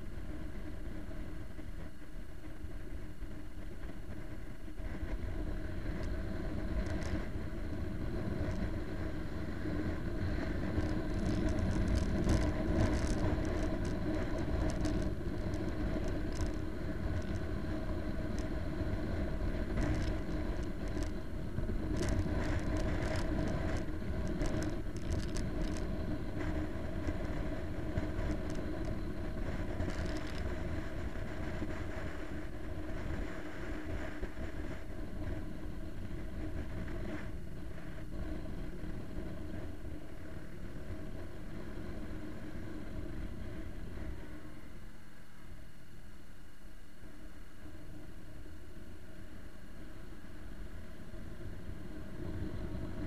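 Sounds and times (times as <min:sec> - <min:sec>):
wind rumble on microphone: 0:00.0 - 0:46.1, 0:46.9 - 0:53.0
motorcycle engine running: 0:00.2 - 0:44.5.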